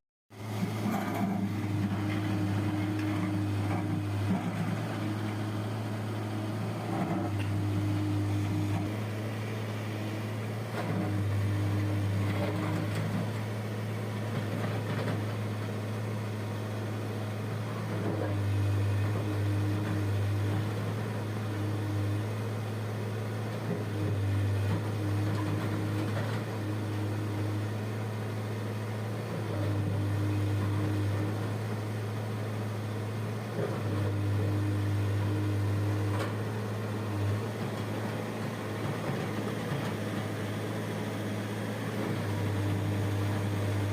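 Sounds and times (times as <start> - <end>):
diesel engine under load: 0.4 - 43.9.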